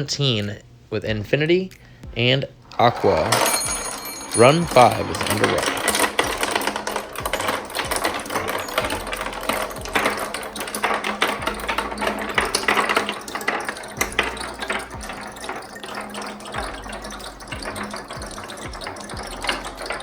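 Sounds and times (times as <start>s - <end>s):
marbles rattling down a track: 2.7s - 20.0s.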